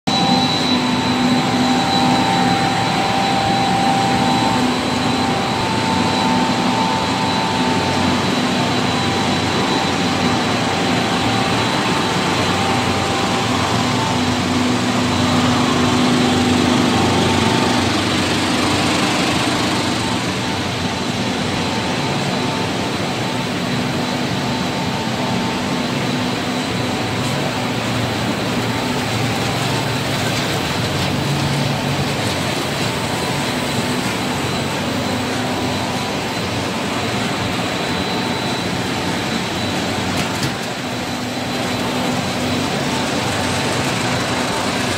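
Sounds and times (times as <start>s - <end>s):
machine whining tones: 0.1s - 44.9s
motors and conveyors din: 0.1s - 44.9s.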